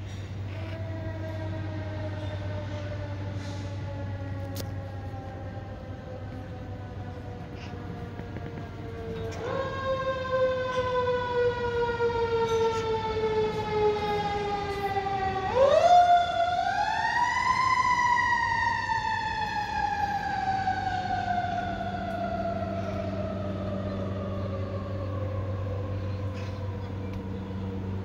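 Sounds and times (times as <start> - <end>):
low steady hum: 0.0 - 28.0
mechanical siren wailing: 0.4 - 28.0.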